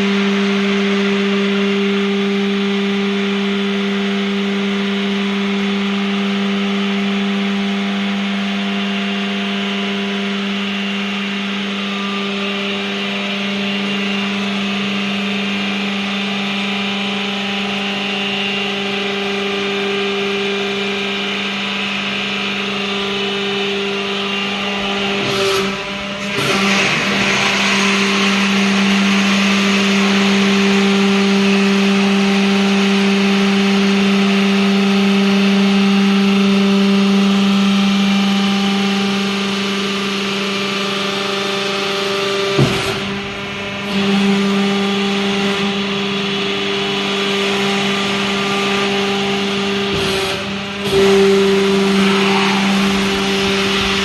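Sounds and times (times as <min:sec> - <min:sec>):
hydraulic power unit humming: 0:00.0 - 0:54.0.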